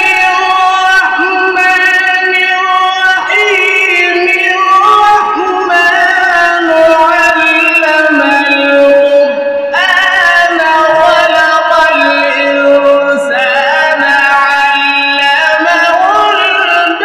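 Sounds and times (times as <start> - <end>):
man reciting melodically into microphone: 0.0 - 17.0.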